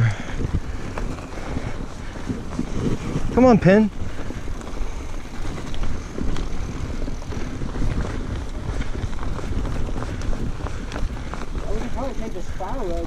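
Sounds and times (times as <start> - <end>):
bike clicks and rattles: 0.0 - 13.0
wind rushing over microphone: 0.0 - 13.0.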